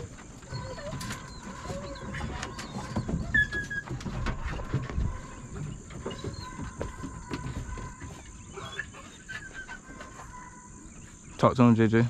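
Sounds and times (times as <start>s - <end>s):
distant hounds baying: 0.0s - 11.4s.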